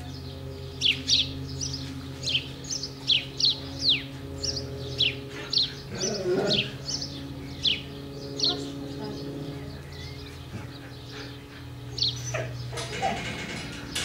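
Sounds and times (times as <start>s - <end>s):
bird chirping: 0.0s - 14.0s
steady low hum: 0.0s - 14.0s.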